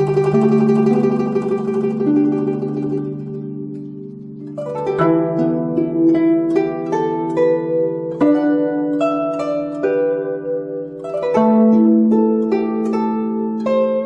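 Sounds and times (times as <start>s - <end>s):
plucked zither melody: 0.0s - 14.0s.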